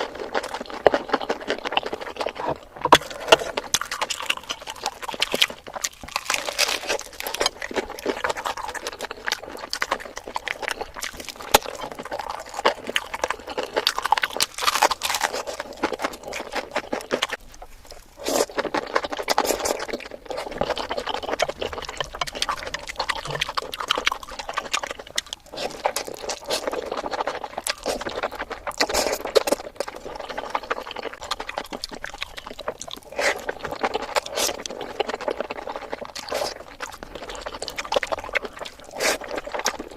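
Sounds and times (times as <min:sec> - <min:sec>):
rapid chewing and mouth clicks: 0:00.0 - 0:39.9.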